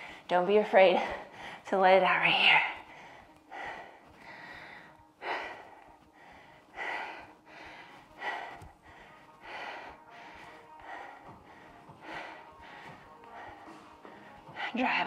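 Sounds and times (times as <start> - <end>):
woman breathing hard: 0.0 - 0.3, 1.0 - 1.7, 2.4 - 15.0.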